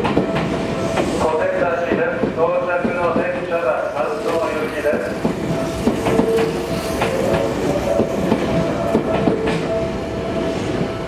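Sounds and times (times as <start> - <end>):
train wheels clicking over rail joints: 0.0 - 9.8
electric train whine: 0.0 - 11.0.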